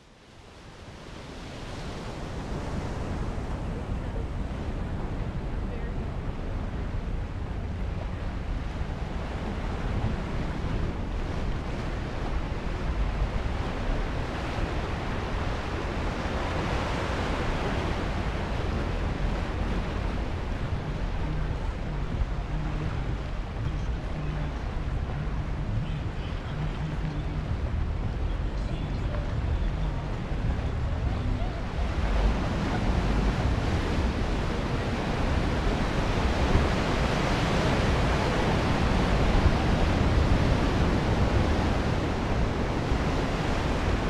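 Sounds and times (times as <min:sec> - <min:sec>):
wind rumble on microphone: 0:00.0 - 0:44.0
surf breaking over rocks: 0:01.3 - 0:44.0.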